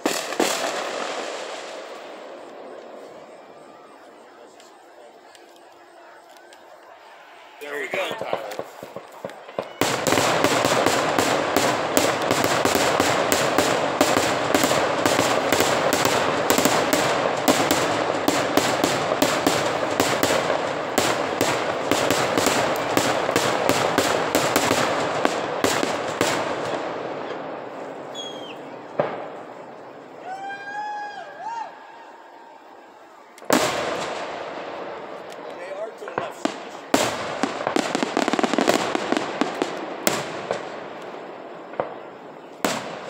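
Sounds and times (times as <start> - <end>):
fireworks crackling: 0.0 - 43.0.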